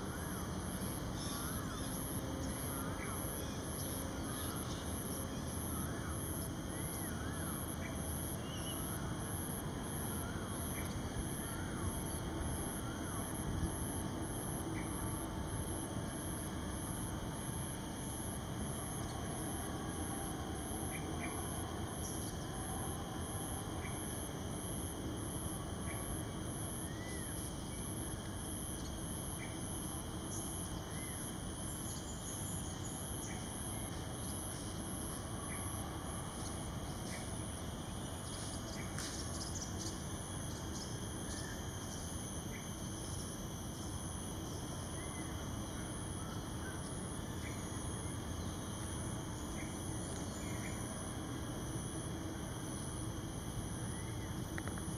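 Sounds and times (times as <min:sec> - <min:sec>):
insect chorus pulsing buzz: 0:00.0 - 0:54.9.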